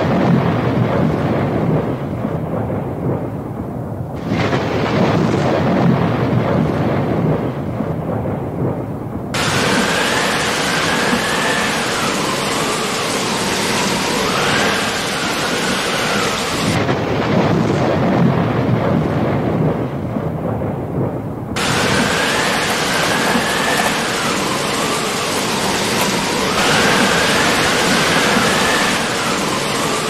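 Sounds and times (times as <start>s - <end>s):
thunder rumbling: 0.0s - 30.0s
rain hissing: 4.0s - 20.0s, 21.0s - 30.0s.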